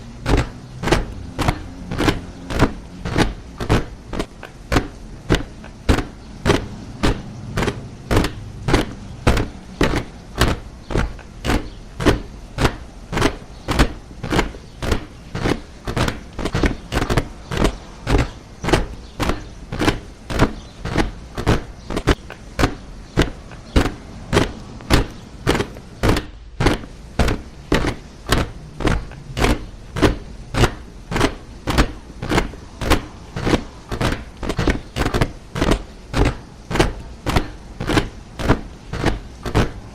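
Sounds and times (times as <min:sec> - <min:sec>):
soldiers marching in step: 0:00.0 - 0:39.9.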